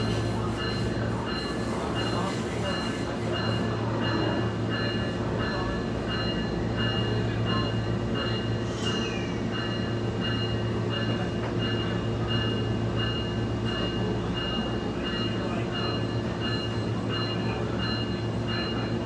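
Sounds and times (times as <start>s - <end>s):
diesel railcar engine drone: 0.0s - 19.0s.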